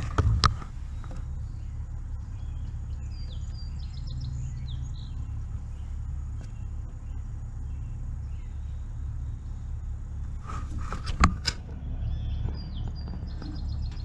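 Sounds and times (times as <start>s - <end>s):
bird chirps: 0.0s - 14.0s
steady low rumble: 0.0s - 14.0s.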